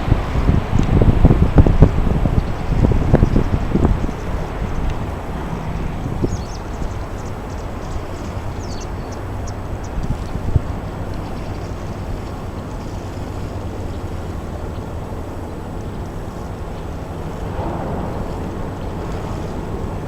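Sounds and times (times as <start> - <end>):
harbour noise: 0.0 - 20.0
low engine drone: 0.0 - 20.0
wind: 0.0 - 20.0.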